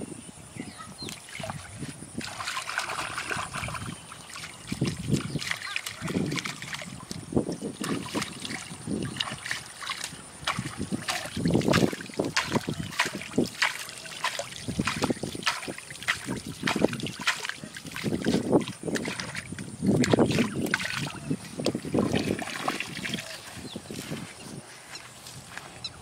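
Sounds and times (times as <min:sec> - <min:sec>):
muddy water splashing: 0:00.9 - 0:26.0.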